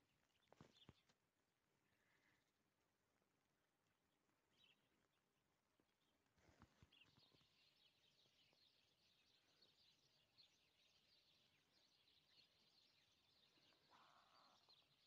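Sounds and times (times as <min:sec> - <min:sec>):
small birds chirping: 0:00.0 - 0:02.5, 0:03.2 - 0:15.0.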